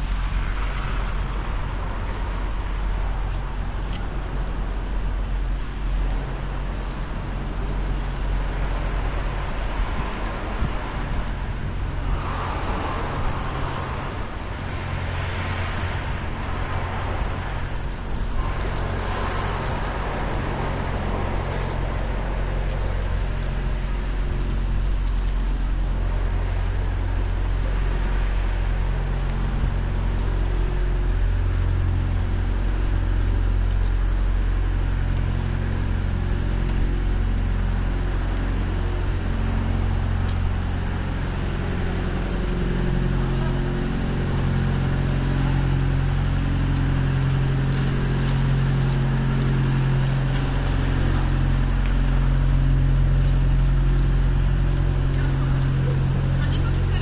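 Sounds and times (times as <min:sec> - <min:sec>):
large engine humming: 0:00.0 - 0:57.0.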